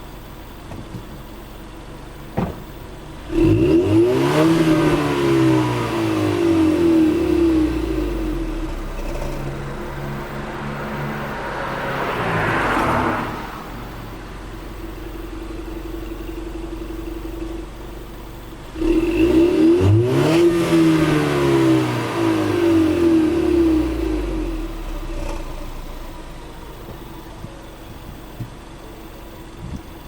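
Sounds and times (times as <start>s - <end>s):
car engine revving: 2.2s - 29.8s.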